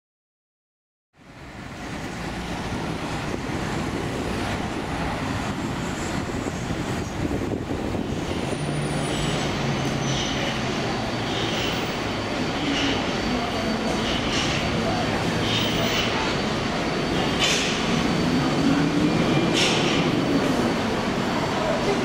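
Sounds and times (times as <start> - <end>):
metro train rumbling: 1.2 - 22.0.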